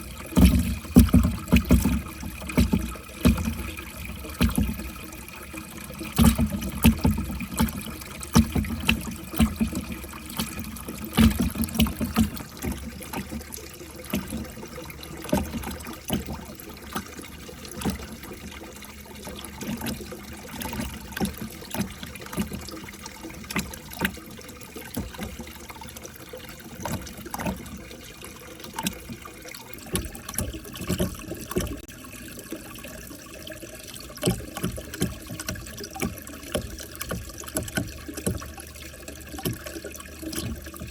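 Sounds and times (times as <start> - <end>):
water trickling through track: 0.0 - 40.9.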